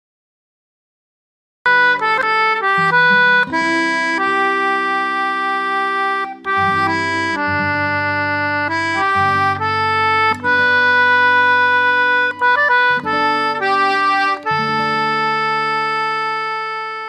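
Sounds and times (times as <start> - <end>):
instrumental background music: 1.7 - 17.0.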